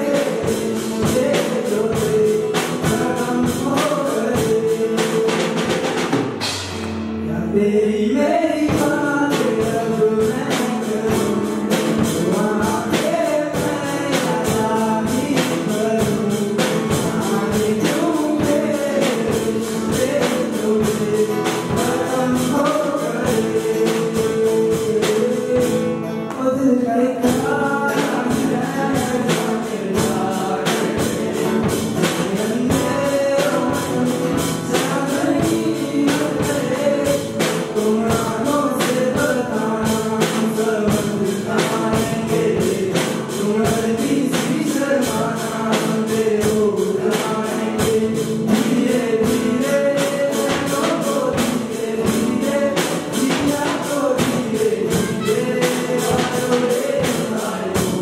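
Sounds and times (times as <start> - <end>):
drum kit beat: 0.0 - 7.4, 8.2 - 26.5, 27.1 - 58.0
hand drum: 0.0 - 7.4, 8.6 - 26.4, 27.2 - 58.0
acoustic guitar: 0.0 - 58.0
man singing: 0.0 - 58.0.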